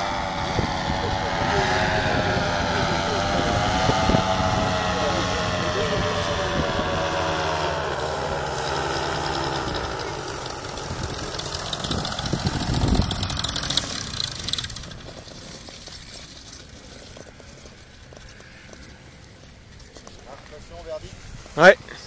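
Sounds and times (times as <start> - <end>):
paramotor engine and propeller: 0.0 - 22.0.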